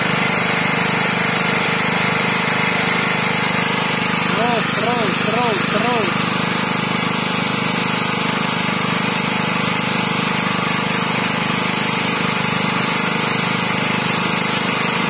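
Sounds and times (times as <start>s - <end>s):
generator running: 0.0s - 15.0s.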